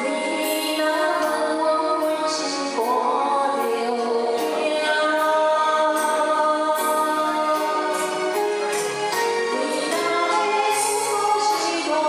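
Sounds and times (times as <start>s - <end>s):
karaoke backing track: 0.0s - 12.0s
woman singing into a microphone: 0.0s - 12.0s.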